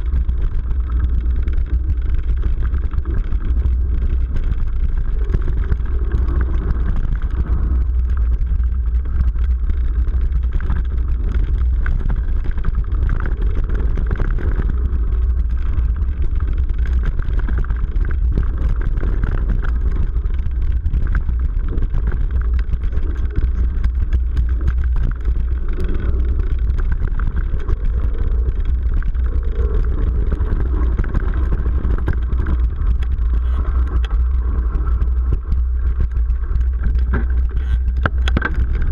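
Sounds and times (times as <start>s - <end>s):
bike rattling and clicking: 0.0s - 38.9s
low rumble of bike riding: 0.0s - 38.9s.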